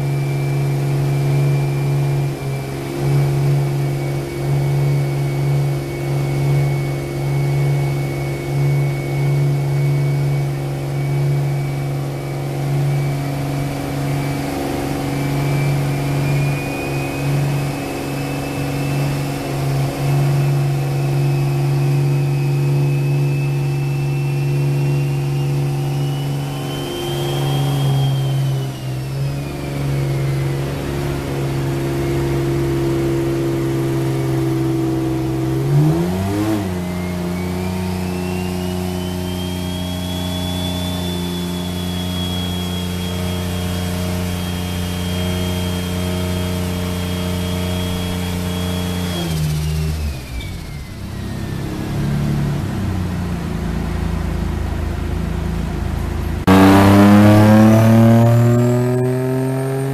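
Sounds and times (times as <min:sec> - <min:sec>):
car engine running on dyno: 0:00.0 - 0:59.9
high whine: 0:00.0 - 0:59.9.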